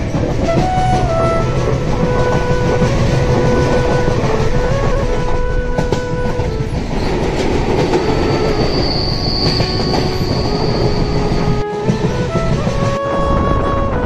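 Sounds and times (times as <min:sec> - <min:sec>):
high wheel squeal: 0:00.0 - 0:13.7
train wheels rumbling on rails: 0:00.0 - 0:14.0.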